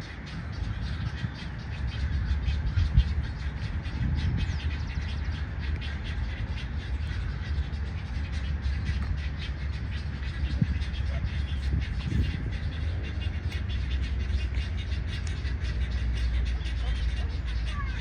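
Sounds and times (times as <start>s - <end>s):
low rumble: 0.0s - 18.0s
wading birds calling harshly: 0.0s - 18.0s.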